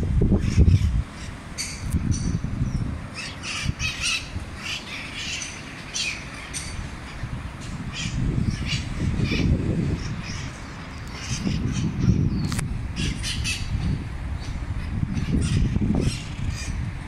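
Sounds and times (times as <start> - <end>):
parrots calling: 0.4 - 12.4, 13.0 - 13.8, 14.4 - 16.8.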